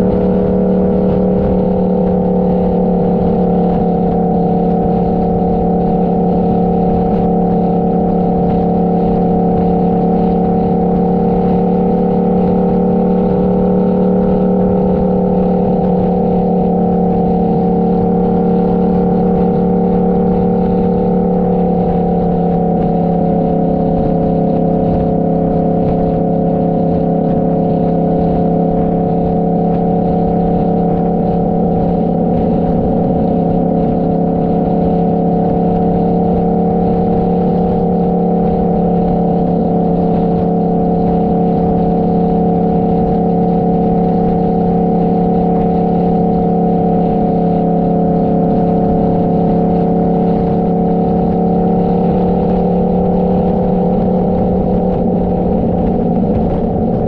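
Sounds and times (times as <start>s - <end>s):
motorcycle engine cruising: 0.0s - 57.0s
wind noise: 0.0s - 57.0s.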